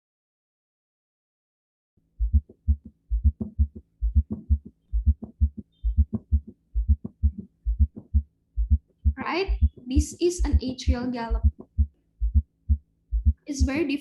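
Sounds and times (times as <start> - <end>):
galloping heart sounds: 2.2 - 14.0.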